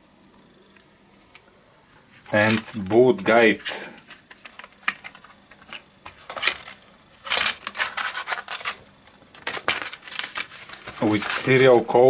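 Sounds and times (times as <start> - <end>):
paper rustling against plastic: 2.0 - 12.0.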